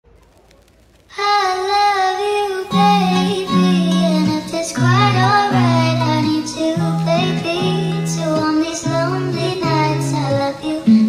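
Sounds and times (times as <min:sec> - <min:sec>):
high sung vocal melody: 0:01.1 - 0:11.0.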